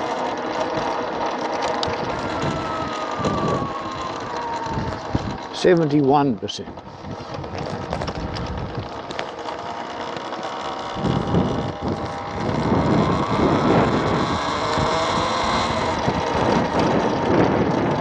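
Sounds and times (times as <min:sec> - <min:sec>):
electric motor whine: 0:00.0 - 0:18.0
wind buffeting microphone: 0:01.8 - 0:18.0.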